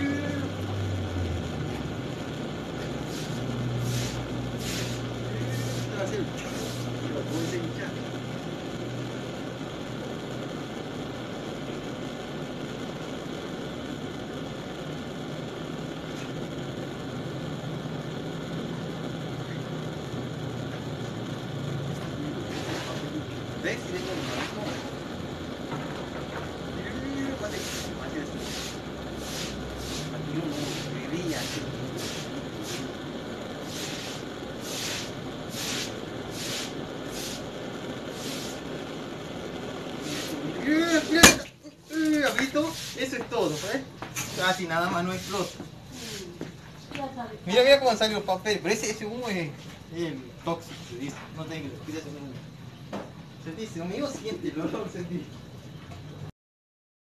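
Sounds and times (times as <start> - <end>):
blowtorch flame hissing: 0.0 - 56.3.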